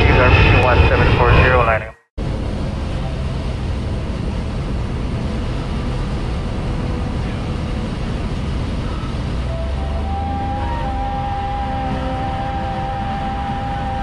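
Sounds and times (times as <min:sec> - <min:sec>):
light aircraft engine drone: 0:00.0 - 0:14.0
rushing air: 0:02.2 - 0:14.0.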